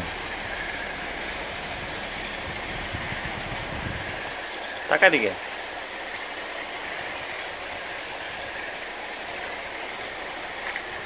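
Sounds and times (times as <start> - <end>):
toy train whirring and rattling: 0.0 - 11.0.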